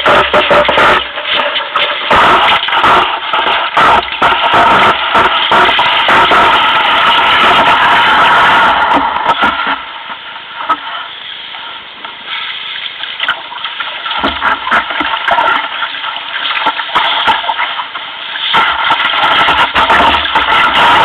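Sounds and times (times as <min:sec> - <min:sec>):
paddle splashes: 0:00.0 - 0:21.0
water rushing: 0:00.0 - 0:21.0.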